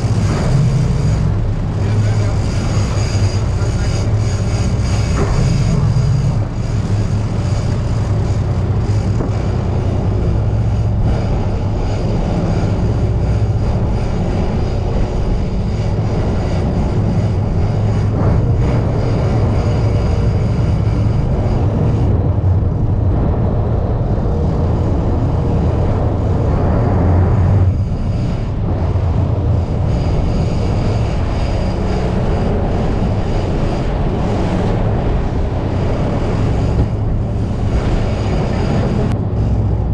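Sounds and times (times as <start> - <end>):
boat engine humming: 0.0 - 39.9
wind and water rushing: 0.0 - 39.9.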